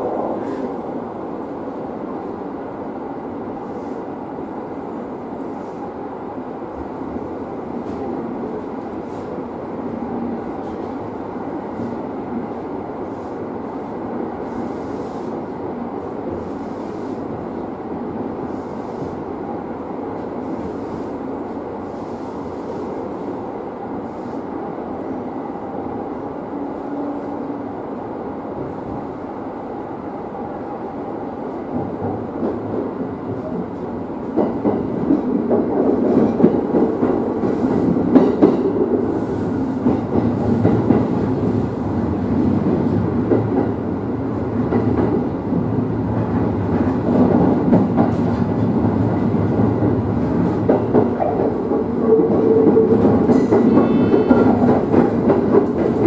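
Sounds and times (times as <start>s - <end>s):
train wheels rumbling on rail: 0.0s - 29.8s, 31.1s - 56.0s.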